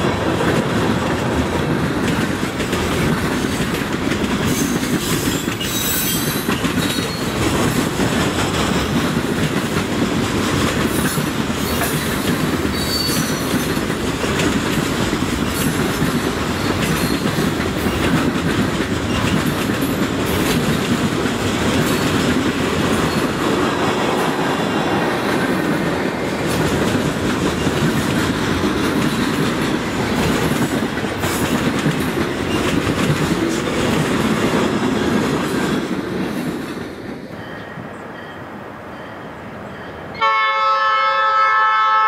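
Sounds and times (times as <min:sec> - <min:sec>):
freight train wheels clattering: 0:00.0 - 0:38.4.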